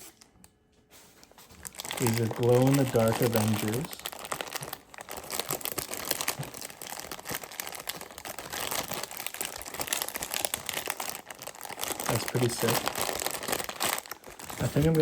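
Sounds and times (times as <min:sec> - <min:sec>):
toy packs crinkling: 0:01.4 - 0:15.0.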